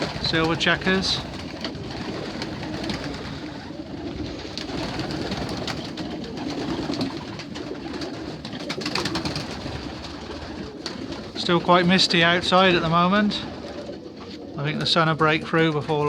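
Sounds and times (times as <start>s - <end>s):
birds clicking and scuffing: 0.0s - 16.0s
pigeons cooing: 0.0s - 16.0s.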